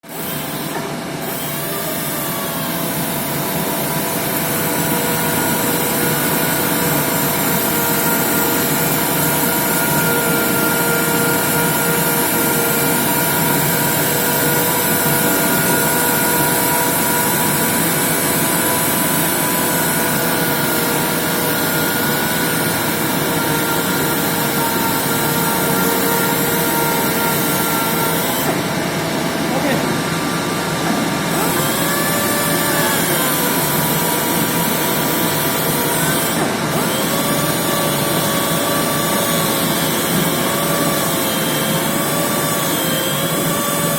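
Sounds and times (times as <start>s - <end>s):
electric sander whining: 3.8s - 43.9s.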